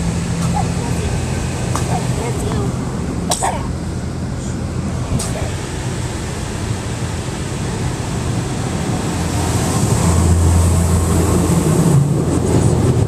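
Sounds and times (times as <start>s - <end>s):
car wash machinery hum: 0.0s - 13.0s.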